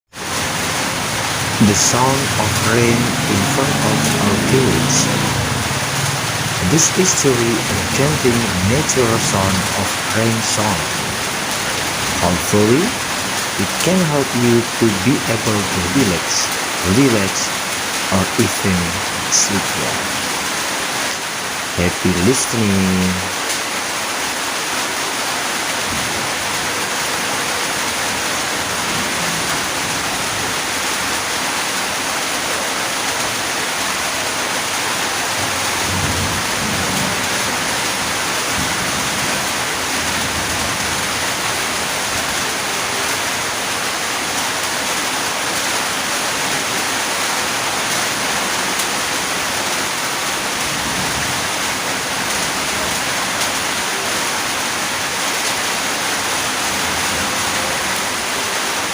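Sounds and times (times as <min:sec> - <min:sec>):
steady rain: 0:00.1 - 0:58.9.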